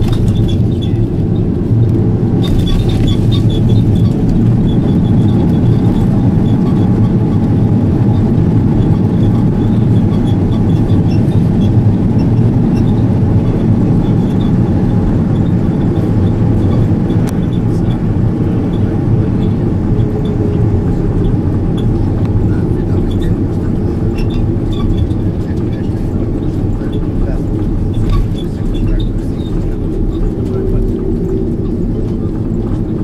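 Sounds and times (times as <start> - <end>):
airplane cabin rumble on landing: 0.0 - 33.0.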